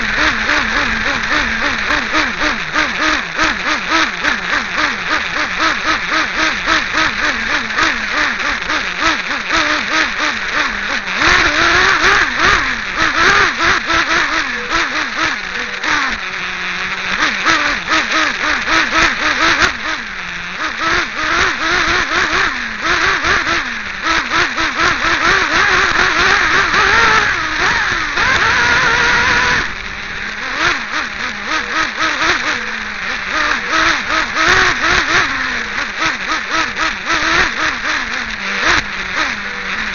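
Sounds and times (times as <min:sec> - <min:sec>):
small nitro engine revving: 0:00.0 - 0:39.9.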